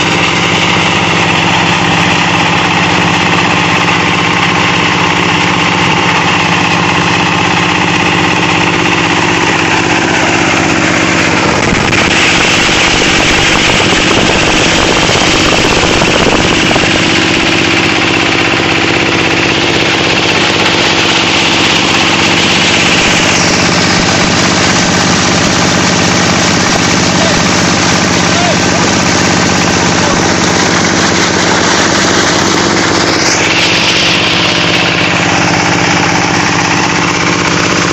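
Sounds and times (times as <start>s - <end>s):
shredder motor hum: 0.0s - 37.9s.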